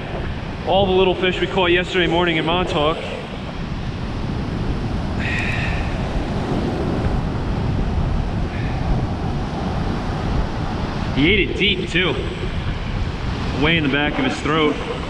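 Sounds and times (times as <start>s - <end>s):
surf running up sand: 0.0s - 15.0s
wind buffeting microphone: 0.0s - 15.0s.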